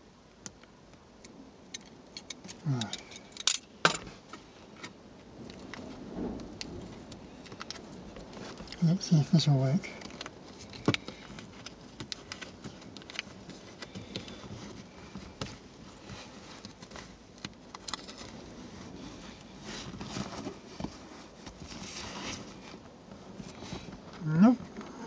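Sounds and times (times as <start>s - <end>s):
hands rustling and scraping upholstery: 3.9s - 25.0s.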